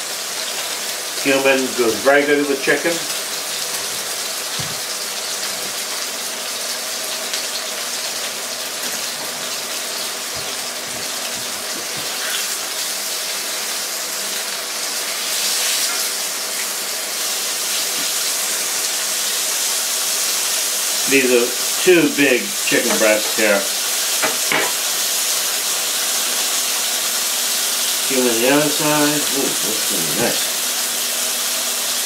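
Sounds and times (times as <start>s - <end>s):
chicken sizzling in skillet: 0.0s - 32.0s.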